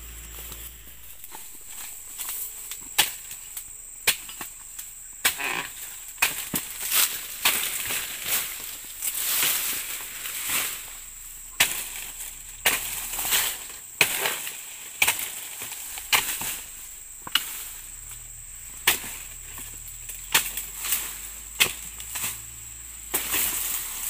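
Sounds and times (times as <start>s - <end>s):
chisel chopping palm fronds: 0.4s - 4.6s, 5.2s - 10.9s, 11.5s - 24.0s.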